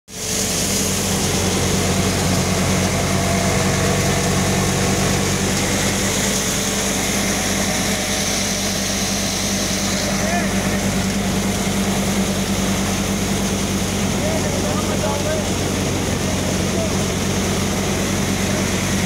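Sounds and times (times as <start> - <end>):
grain pouring out: 0.1 - 19.0
thresher machine drone: 0.1 - 19.0.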